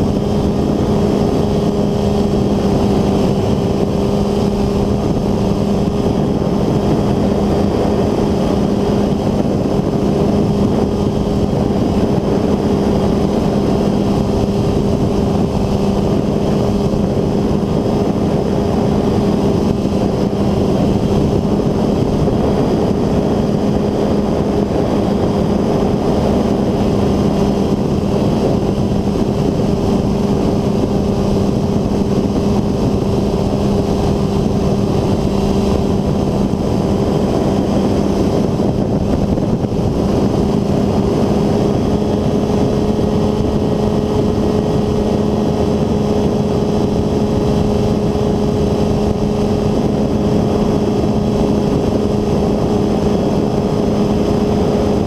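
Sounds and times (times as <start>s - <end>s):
ultralight engine and propeller droning: 0.0s - 55.0s.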